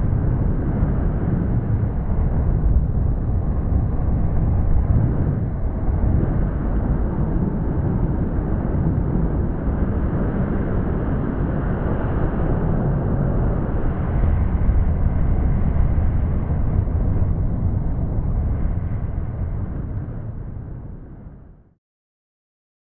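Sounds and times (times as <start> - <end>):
wind on microphone: 0.0 - 21.7.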